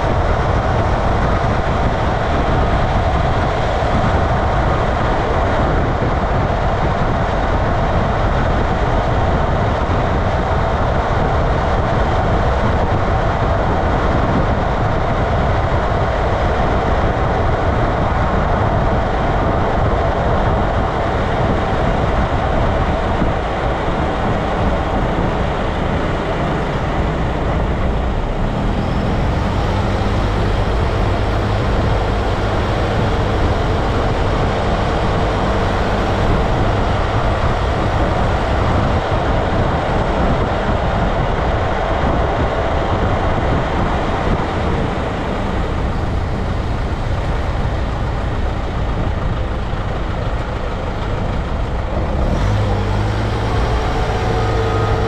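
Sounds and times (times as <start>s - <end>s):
low drivetrain hum: 0.0s - 55.0s
tyres rolling on asphalt: 0.0s - 55.0s.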